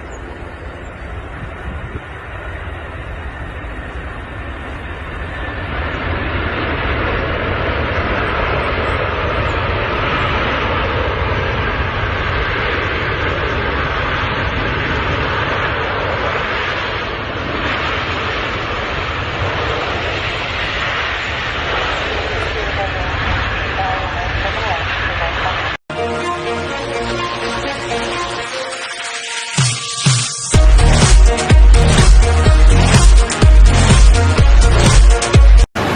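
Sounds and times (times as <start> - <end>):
airplane rushing noise: 0.0 - 35.9.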